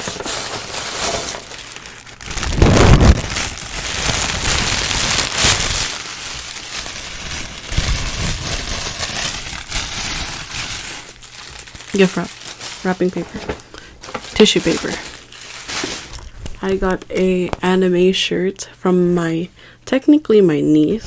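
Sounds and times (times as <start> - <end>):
wrapping paper crinkling: 0.0 - 17.7.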